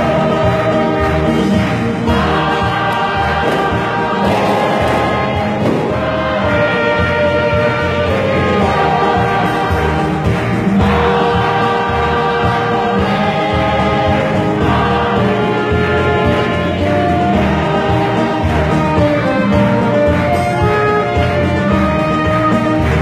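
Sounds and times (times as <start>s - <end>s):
mixed choir singing: 0.0s - 23.0s.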